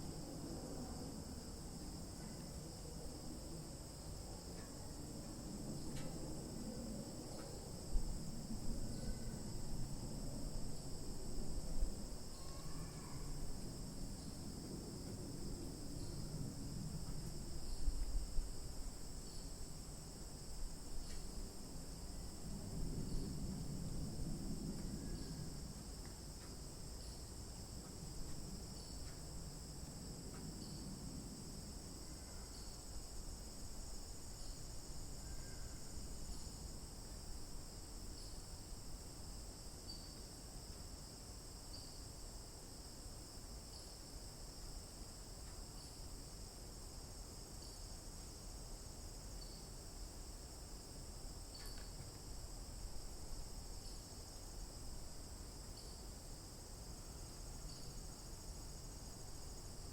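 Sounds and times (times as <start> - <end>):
crickets chorus: 0.0 - 59.9.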